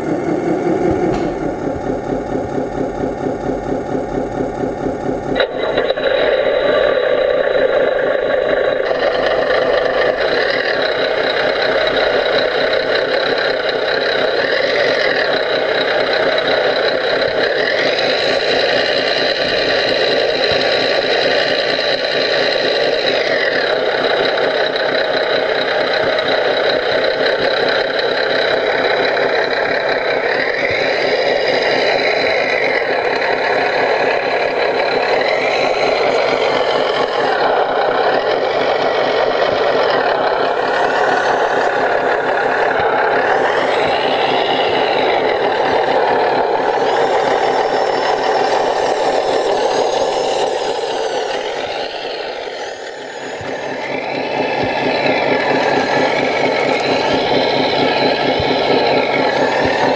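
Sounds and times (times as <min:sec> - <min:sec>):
electronic diesel engine chugging: 0:00.0 - 0:59.9
whine rising and falling: 0:00.0 - 0:59.9.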